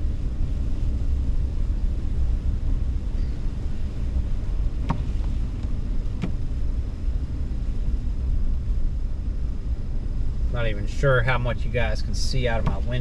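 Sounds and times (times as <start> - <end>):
car rumbling on snowy road: 0.0 - 13.0.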